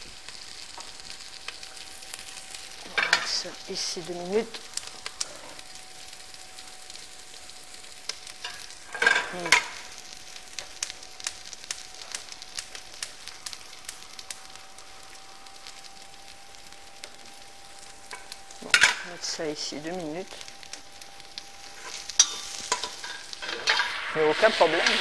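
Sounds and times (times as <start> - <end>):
onions sizzling in a pot: 0.0 - 25.0.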